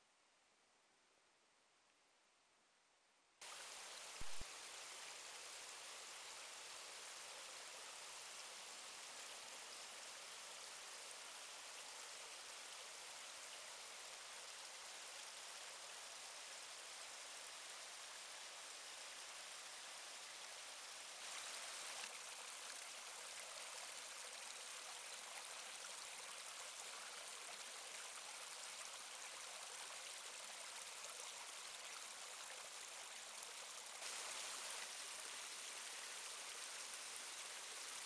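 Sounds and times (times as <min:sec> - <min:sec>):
brook babbling over stones: 0:03.4 - 0:38.0.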